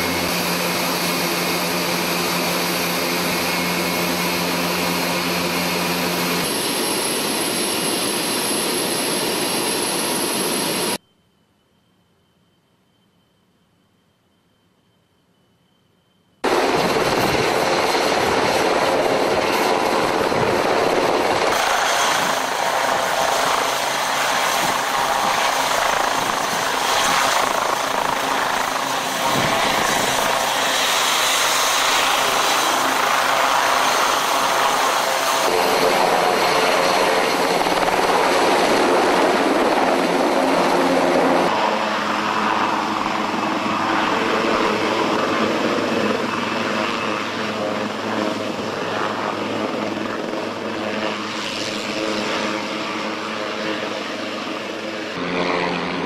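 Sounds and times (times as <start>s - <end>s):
helicopter rotor noise: 0.0s - 11.0s, 16.4s - 56.0s
turbine engine whine: 0.0s - 11.0s, 16.4s - 56.0s.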